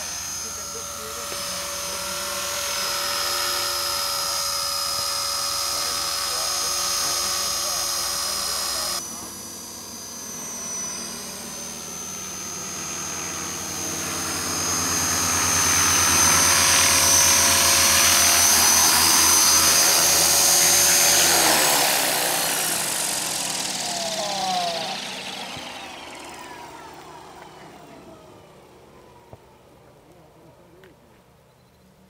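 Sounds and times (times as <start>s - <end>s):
motor spooling down: 0.0s - 31.0s
rc helicopter motor whining: 0.0s - 32.0s.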